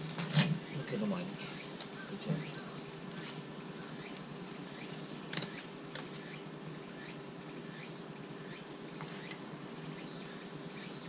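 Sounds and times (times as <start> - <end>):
insect buzzing: 0.0 - 11.0.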